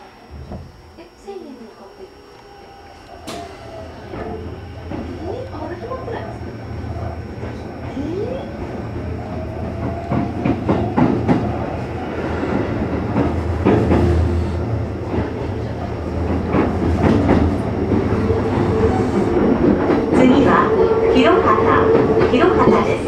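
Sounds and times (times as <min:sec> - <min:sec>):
rising electric motor whine: 0:00.0 - 0:22.6
train interior low rumble: 0:00.0 - 0:23.0.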